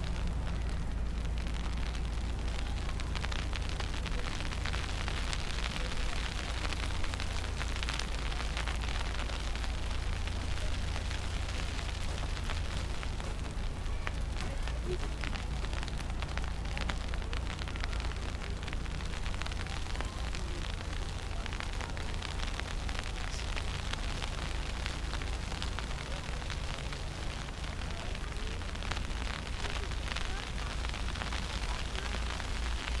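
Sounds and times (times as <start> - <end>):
dense crackle of small ticks: 0.0 - 33.0
wind buffeting microphone: 0.0 - 33.0.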